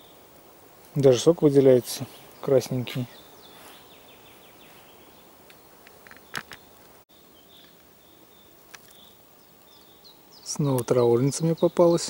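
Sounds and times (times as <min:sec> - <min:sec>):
distant bird chirps: 0:00.0 - 0:12.0
forest ambience: 0:00.0 - 0:12.0.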